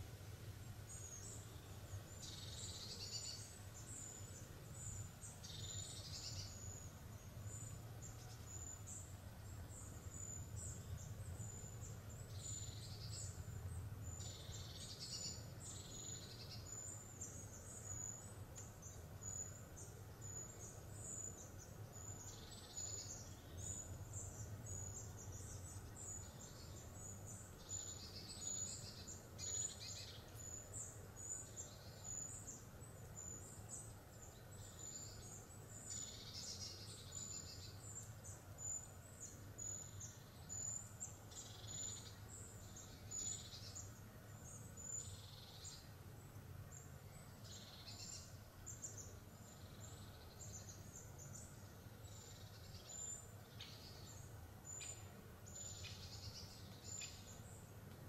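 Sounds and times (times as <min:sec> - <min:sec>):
faint low hum: 0:00.0 - 0:58.0
small birds singing: 0:00.0 - 0:58.0.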